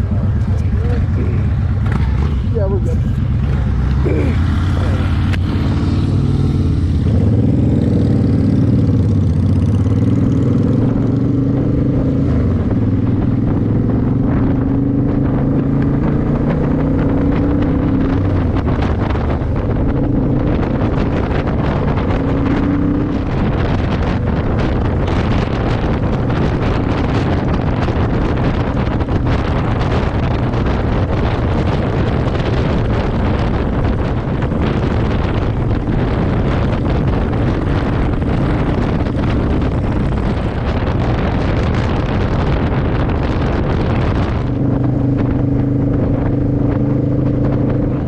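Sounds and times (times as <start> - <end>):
motorcycle engine accelerating: 0.0 - 48.0
wind buffeting microphone: 0.0 - 48.0.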